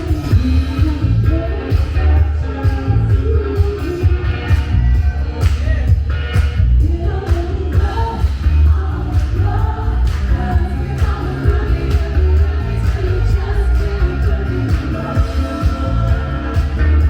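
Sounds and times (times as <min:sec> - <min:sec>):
soul music with singing: 0:00.0 - 0:17.0.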